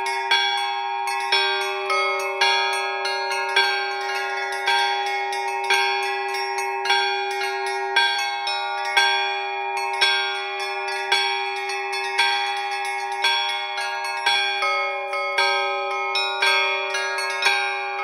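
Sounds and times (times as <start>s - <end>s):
church bells ringing: 0.0s - 18.0s
lasting bell hum: 0.0s - 18.0s.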